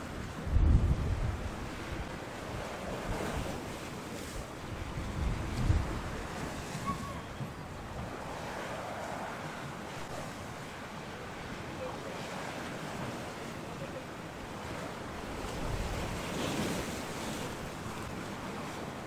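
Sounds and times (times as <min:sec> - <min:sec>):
wind buffeting microphone: 0:00.0 - 0:13.6, 0:14.4 - 0:19.0
choppy sea washing: 0:00.0 - 0:19.0.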